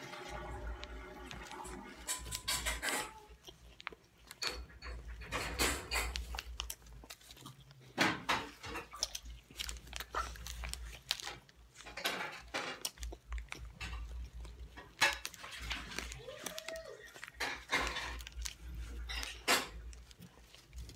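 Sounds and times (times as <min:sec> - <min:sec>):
children chewing food: 0:00.0 - 0:20.9.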